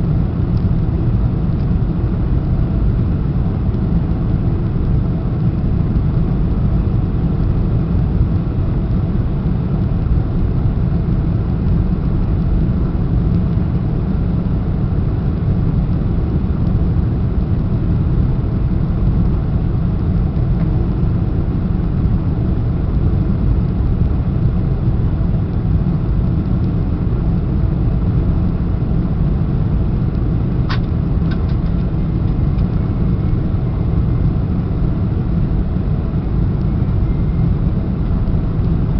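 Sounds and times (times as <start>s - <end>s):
airliner cabin roar: 0.0s - 38.9s.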